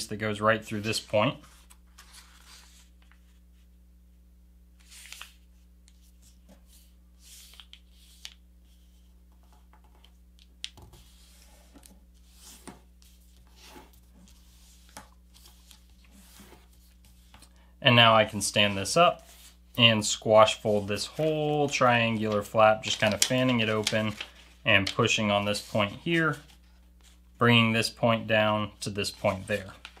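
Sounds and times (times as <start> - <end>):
paper being folded and creased: 0.8 - 3.4, 4.8 - 17.5, 18.3 - 27.2, 28.9 - 30.0.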